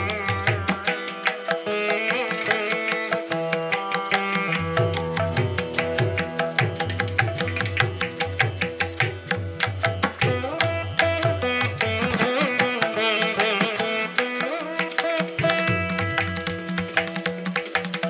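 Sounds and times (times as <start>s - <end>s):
plucked string instrument melody: 0.0s - 18.0s.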